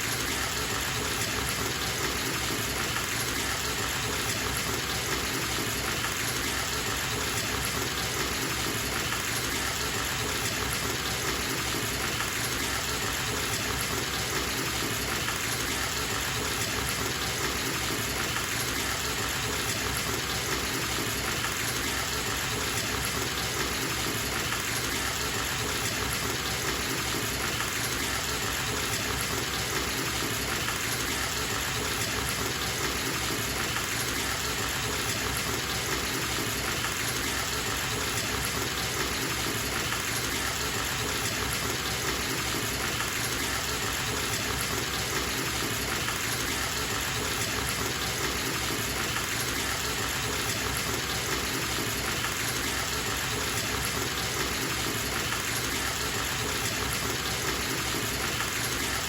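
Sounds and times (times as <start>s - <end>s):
tap water gushing into bathtub: 0.1s - 59.0s.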